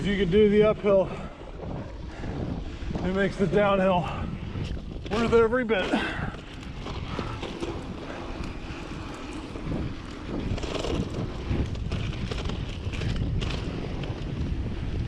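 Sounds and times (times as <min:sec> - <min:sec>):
bike rattles and ticks: 0:00.0 - 0:15.0
wind rushing over microphone: 0:00.0 - 0:15.0.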